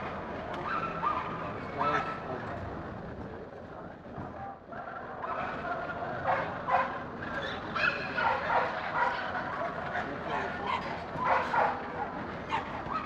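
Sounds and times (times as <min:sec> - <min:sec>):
background murmur: 0:00.0 - 0:13.0.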